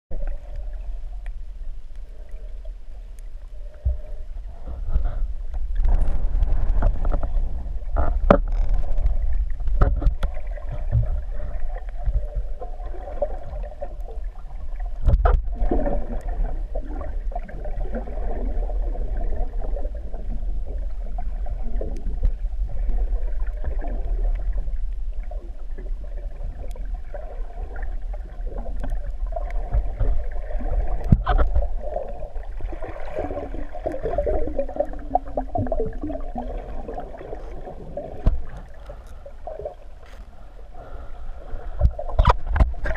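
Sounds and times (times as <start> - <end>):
muffled underwater rumble: 0.1 - 42.9.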